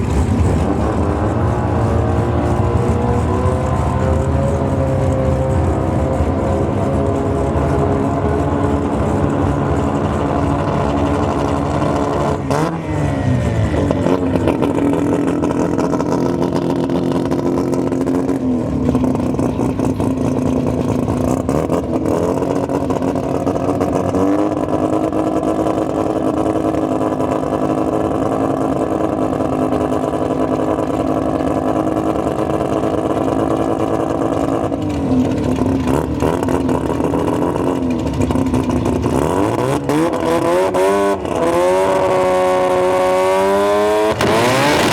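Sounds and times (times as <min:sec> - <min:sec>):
rotary engine running hard: 0:00.0 - 0:44.9.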